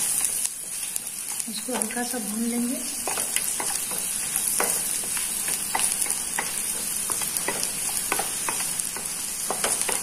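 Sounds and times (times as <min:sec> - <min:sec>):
garlic sizzling in a frying pan: 0:00.0 - 0:10.0.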